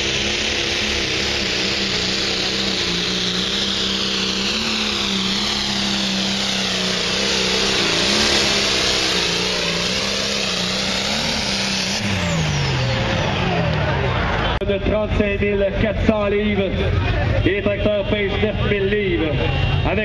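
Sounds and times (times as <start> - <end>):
tractor engine running under load: 0.0 - 17.7.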